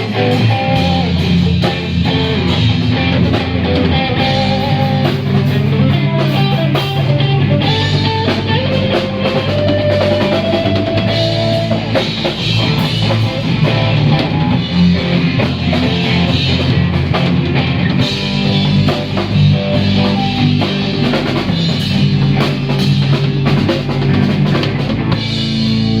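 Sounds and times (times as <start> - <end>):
drum kit beat: 0.0 - 26.0
electric guitar: 0.0 - 26.0.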